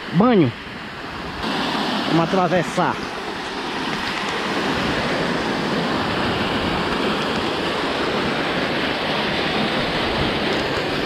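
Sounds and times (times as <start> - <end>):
river water rushing over dam: 0.0 - 11.0.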